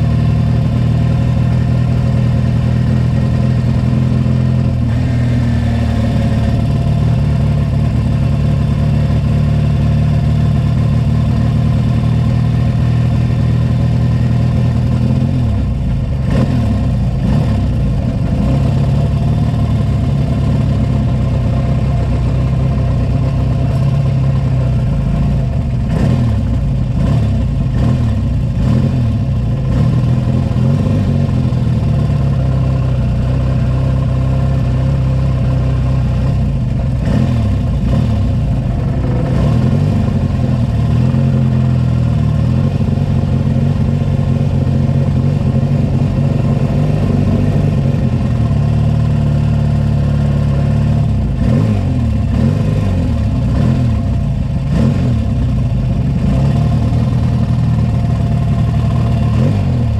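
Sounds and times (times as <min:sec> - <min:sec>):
sidecar engine at low revs: 0:00.0 - 0:59.9.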